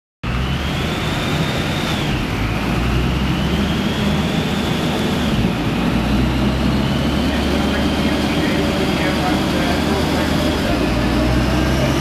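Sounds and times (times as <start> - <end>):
car engine droning on dyno: 0.2 - 12.0
supercharger whine: 0.2 - 12.0.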